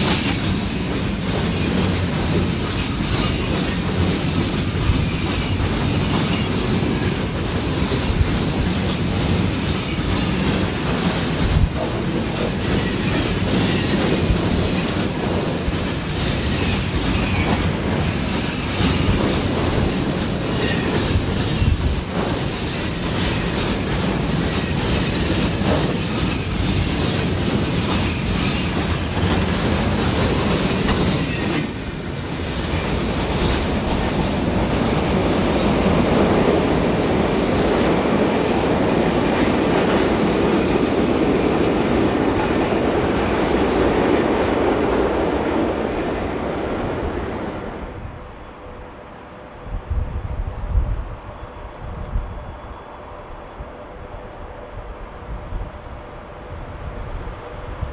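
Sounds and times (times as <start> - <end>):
freight train wheels clattering: 0.0 - 47.7.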